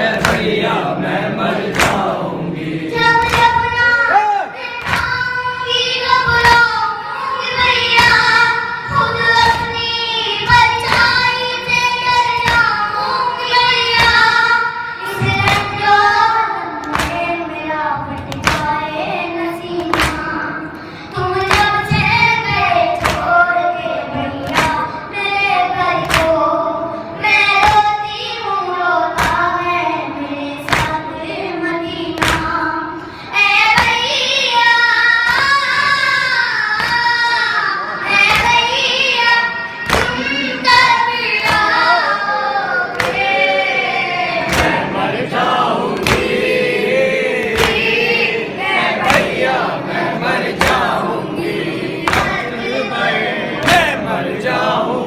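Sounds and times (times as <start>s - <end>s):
boys chanting through microphones: 0.0s - 55.0s.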